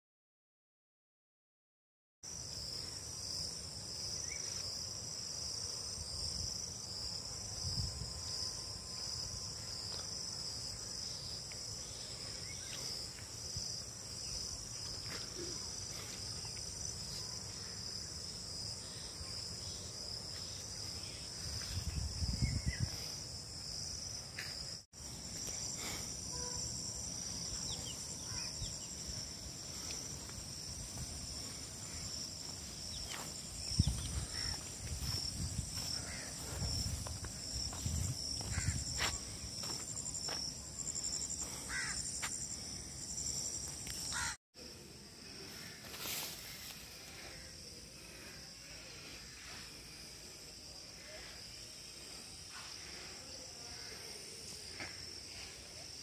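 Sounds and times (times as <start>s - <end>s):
insects trilling: 2.3s - 56.0s.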